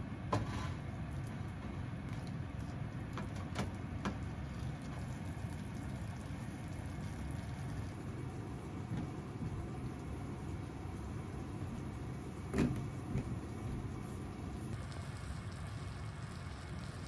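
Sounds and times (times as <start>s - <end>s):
sauce sizzling in frying pan: 0.5s - 17.0s.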